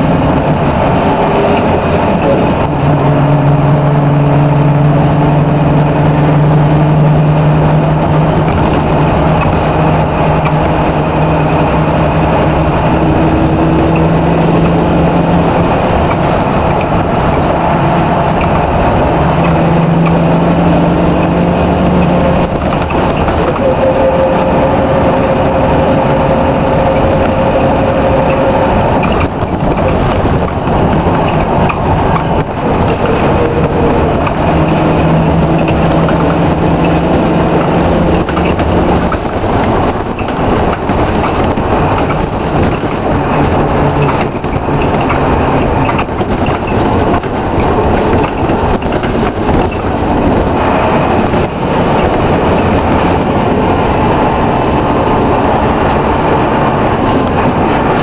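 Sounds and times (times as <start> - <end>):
bus diesel engine running: 0.0 - 58.0
interior rattles: 0.0 - 58.0
road noise: 0.0 - 58.0.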